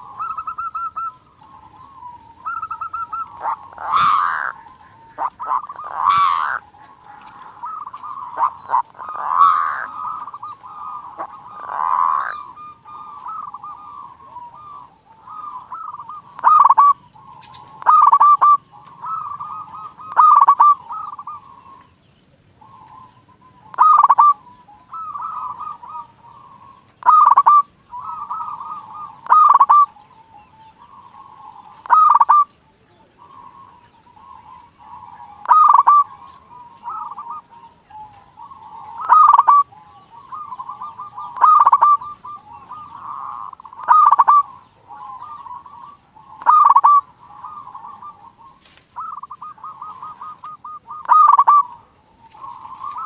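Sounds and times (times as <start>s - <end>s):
zebra dove cooing trills: 0.0s - 53.0s.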